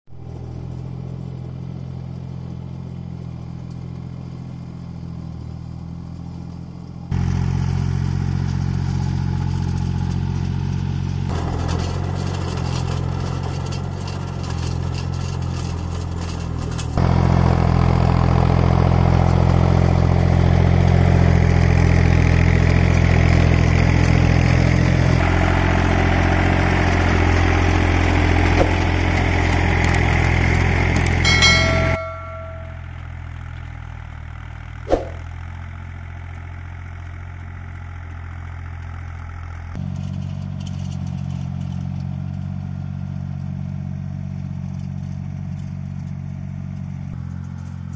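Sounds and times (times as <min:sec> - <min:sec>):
tractor engine droning: 0:00.1 - 0:47.9.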